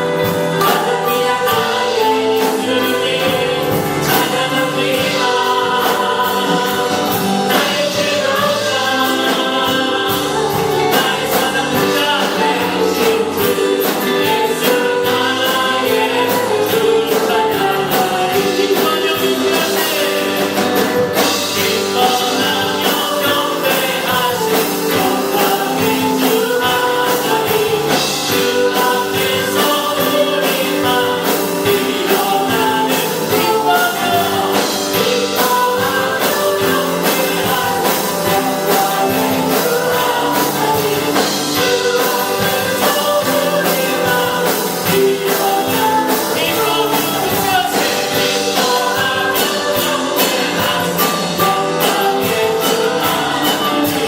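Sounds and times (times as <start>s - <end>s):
praise song with band: 0.0s - 54.0s.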